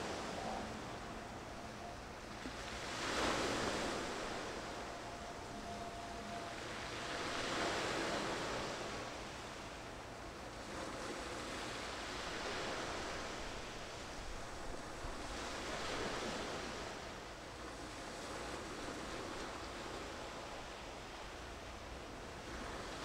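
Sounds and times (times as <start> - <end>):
sea waves washing in: 0.0 - 23.0
wind: 0.0 - 23.0.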